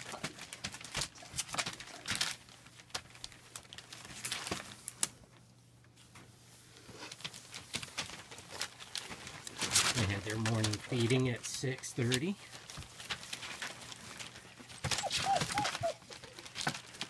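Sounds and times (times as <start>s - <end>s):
puppies scuffling at play: 0.0s - 17.0s.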